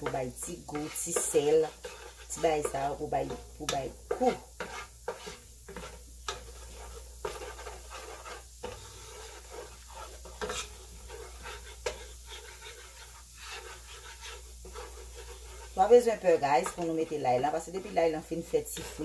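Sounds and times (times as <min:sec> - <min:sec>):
butter and garlic sizzling: 0:00.0 - 0:19.0
wooden spoon scraping a pan: 0:00.0 - 0:19.0.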